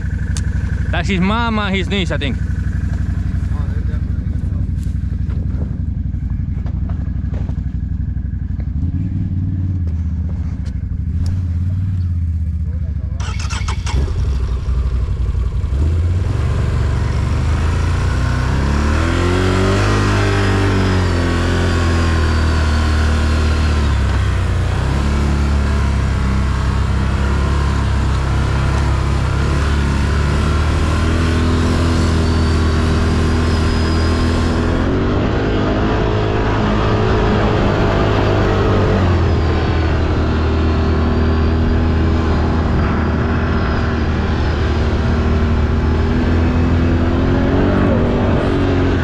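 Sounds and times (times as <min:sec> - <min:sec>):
atv engine revving: 0:00.0 - 0:49.0.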